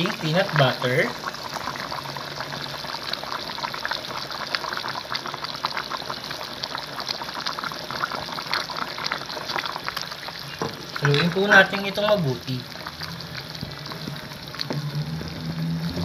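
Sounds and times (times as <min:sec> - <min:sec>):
stew bubbling in a pan: 0:00.0 - 0:16.0.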